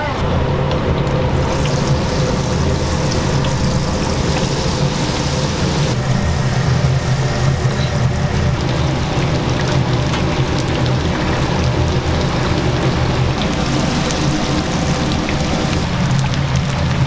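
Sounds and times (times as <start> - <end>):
steady low hum: 0.0 - 17.0
chicken deep-frying in oil: 0.2 - 17.0.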